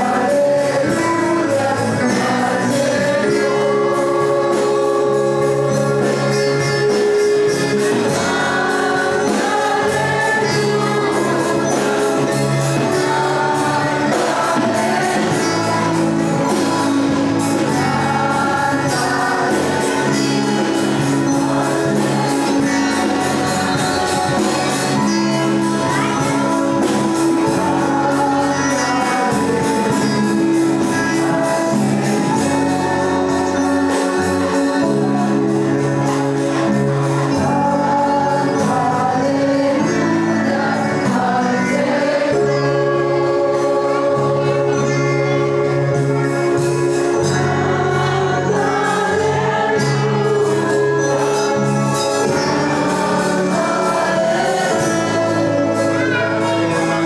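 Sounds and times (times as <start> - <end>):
high percussion beat: 0.0 - 57.0
voices singing worship music: 0.0 - 57.0.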